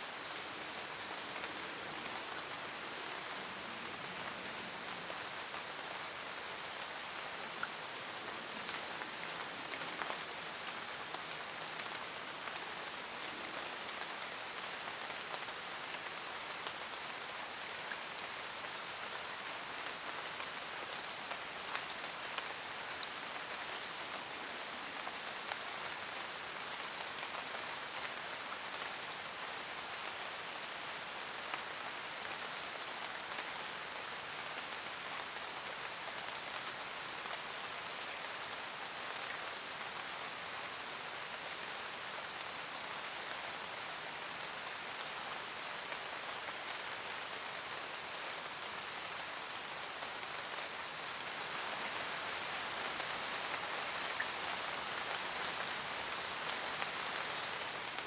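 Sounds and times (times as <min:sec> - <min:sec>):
rain falling in forest: 0:00.0 - 0:58.0.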